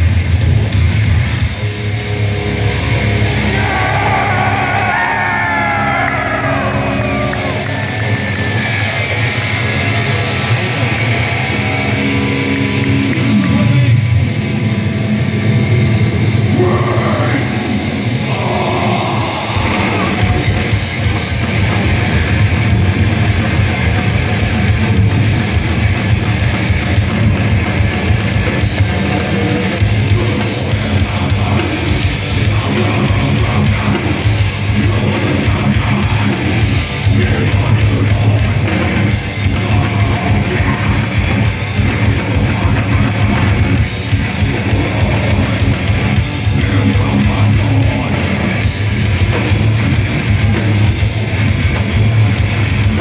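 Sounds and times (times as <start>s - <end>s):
distorted electric guitars: 0.0s - 53.0s
heavy metal band playing: 0.0s - 53.0s.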